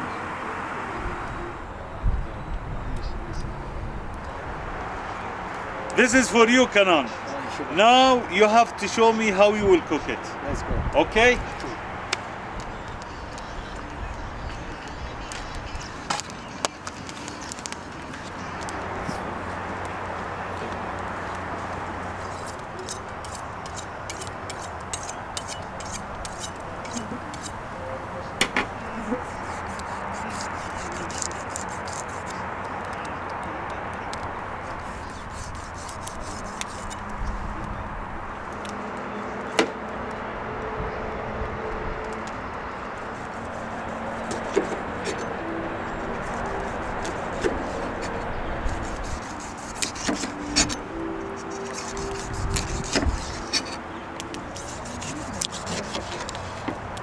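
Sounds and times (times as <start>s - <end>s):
steady outdoor hiss: 0.0s - 57.0s.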